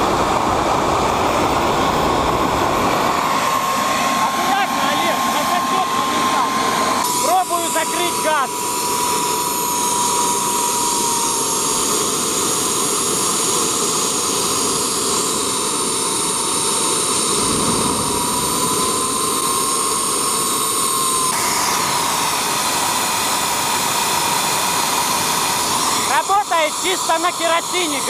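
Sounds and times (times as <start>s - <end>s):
high turbine whine: 0.0s - 28.0s
turbojet engine roaring: 0.0s - 28.0s.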